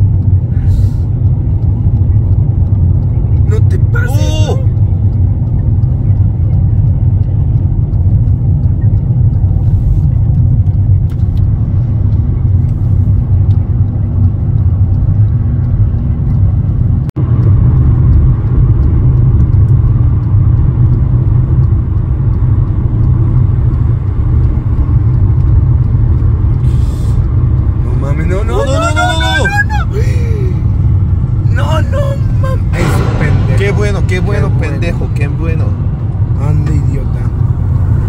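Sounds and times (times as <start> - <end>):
car cabin road and engine rumble: 0.0 - 38.0.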